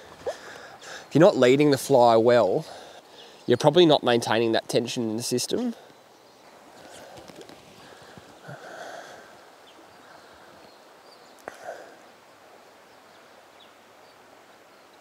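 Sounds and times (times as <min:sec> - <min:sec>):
faint flowing water: 0:00.0 - 0:15.0.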